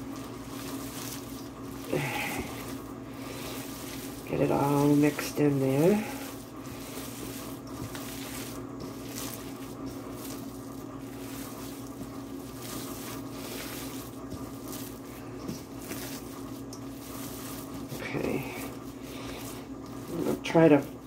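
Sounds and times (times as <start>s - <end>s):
hands mixing wet meat in a bowl: 0.0s - 21.0s.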